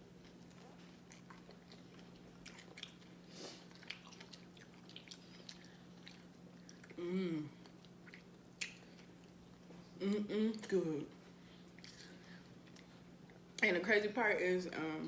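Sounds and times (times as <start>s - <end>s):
steady low hum: 0.0s - 15.0s
person chewing: 0.1s - 10.0s, 11.1s - 13.5s.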